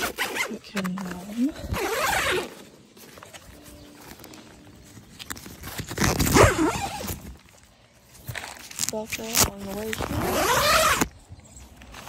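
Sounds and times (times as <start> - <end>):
tent fabric rustling: 0.0 - 12.0.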